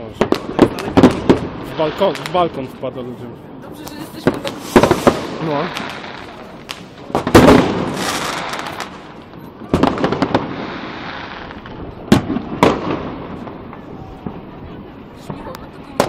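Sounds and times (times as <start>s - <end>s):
distant fireworks explosions: 0.0s - 16.0s
firework bangs: 0.0s - 16.0s
firework crackling: 0.0s - 16.0s.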